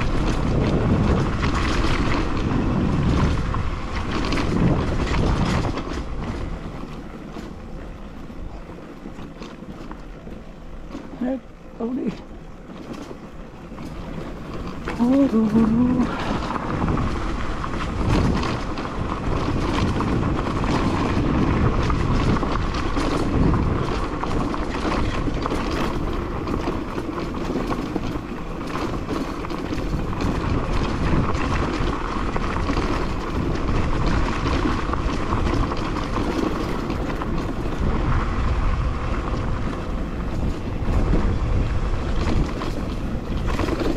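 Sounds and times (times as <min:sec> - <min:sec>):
dirt bike engine running: 0:00.0 - 0:43.9
wind buffeting microphone: 0:00.0 - 0:43.9.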